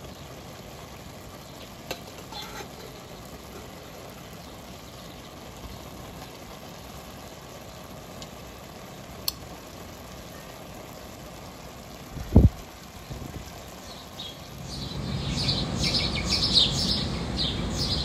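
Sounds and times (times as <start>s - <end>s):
pot simmering and bubbling: 0.0s - 18.0s.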